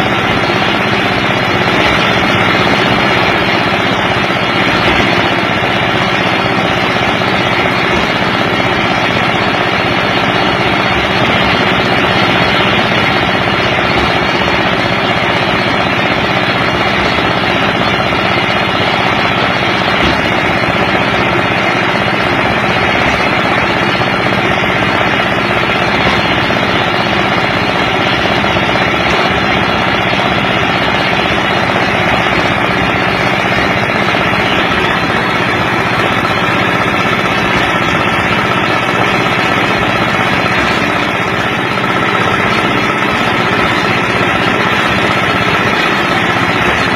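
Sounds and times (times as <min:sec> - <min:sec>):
machine engine running: 0:00.0 - 0:46.9.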